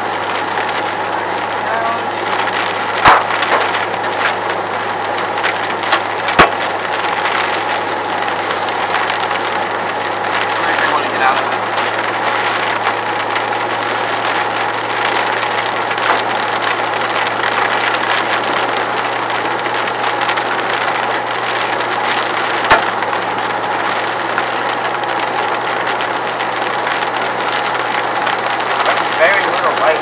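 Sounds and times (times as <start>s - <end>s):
hail and rain hitting a car: 0.0s - 30.0s
low engine hum: 0.0s - 30.0s.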